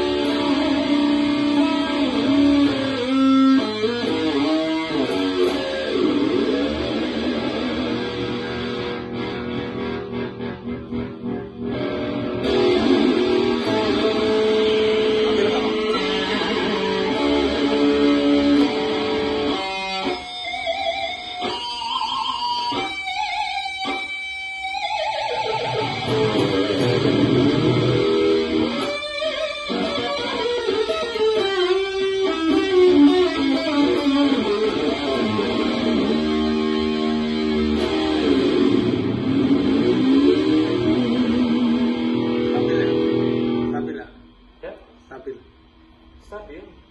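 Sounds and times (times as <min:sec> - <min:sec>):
electric guitar lead notes: 0:00.0 - 0:46.9.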